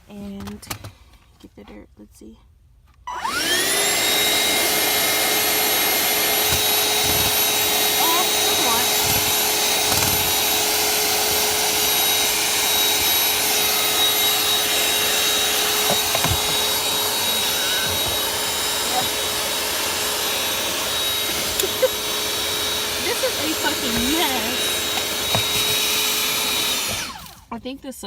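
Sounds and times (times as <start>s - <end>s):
vacuum cleaner running with whine: 3.1s - 27.5s.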